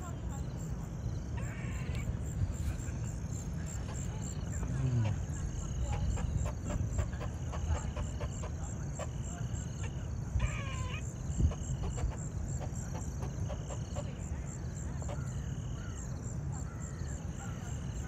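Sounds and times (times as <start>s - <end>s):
insects chirping: 0.0s - 18.0s
low outdoor rumble: 0.0s - 18.0s.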